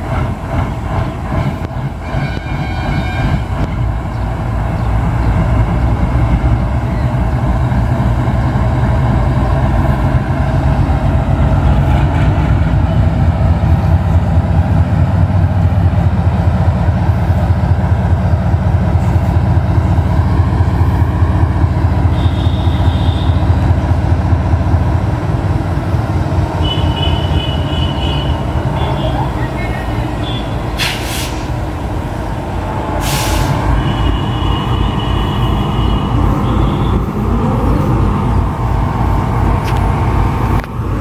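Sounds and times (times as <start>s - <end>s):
diesel locomotive engine humming: 0.0s - 41.0s.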